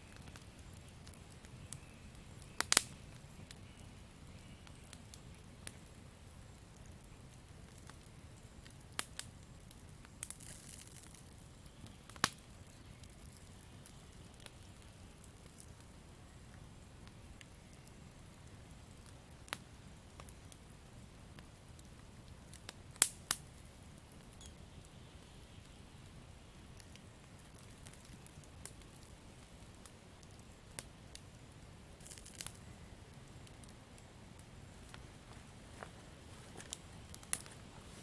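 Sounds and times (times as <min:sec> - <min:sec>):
campfire crackling and popping: 0:00.0 - 0:38.0
faint steady hiss: 0:00.0 - 0:38.0.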